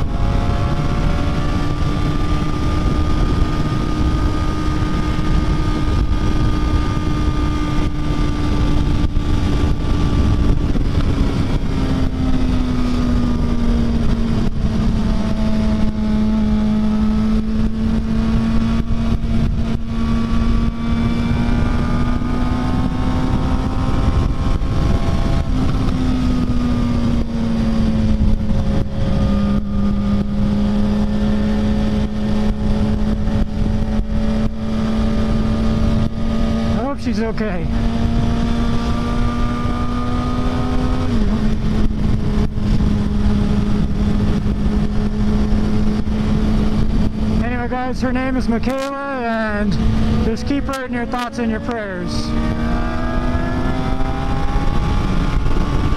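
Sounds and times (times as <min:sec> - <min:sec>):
motorcycle engine cruising: 0:00.0 - 0:55.9
wind rush on microphone: 0:00.0 - 0:55.9.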